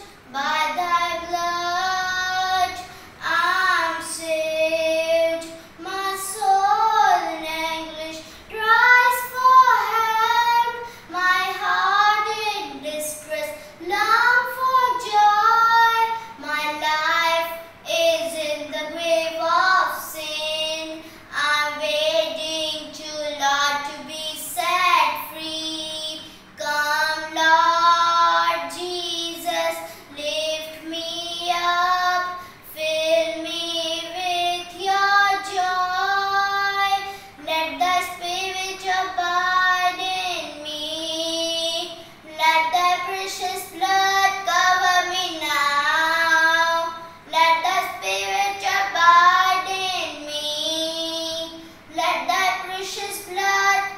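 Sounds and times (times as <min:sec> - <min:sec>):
boy singing unaccompanied: 0:00.0 - 0:53.9.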